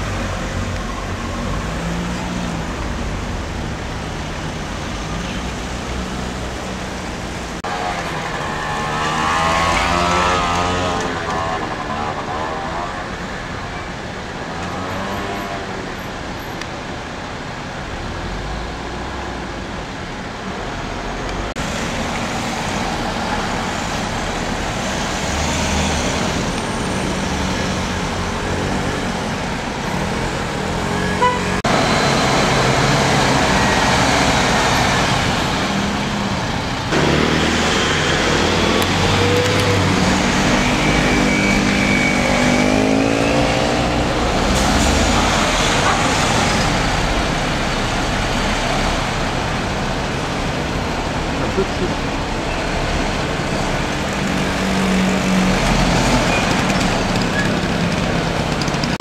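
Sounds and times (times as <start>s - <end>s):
traffic engines idling: 0.0s - 59.0s.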